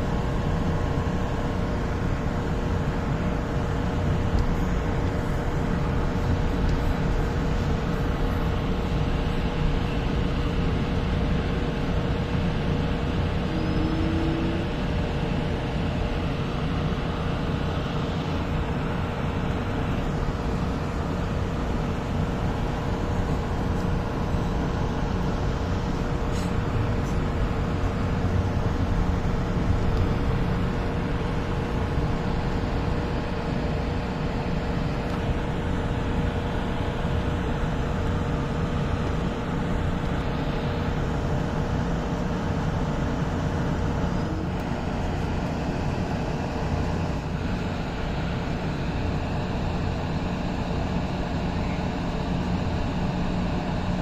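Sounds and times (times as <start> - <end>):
electric hum: 0.0 - 54.0
light rail car rumbling: 0.0 - 54.0.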